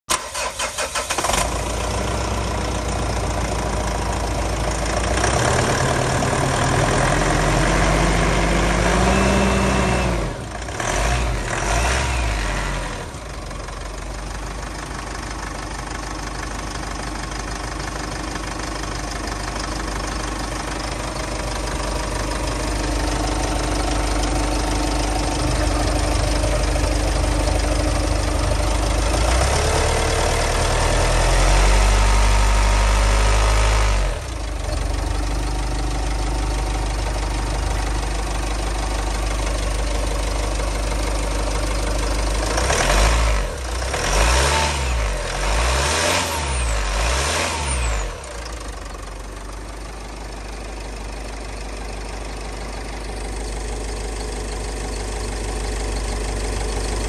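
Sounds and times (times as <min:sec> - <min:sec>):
diesel engine starting and idling: 0:00.1 - 0:57.0.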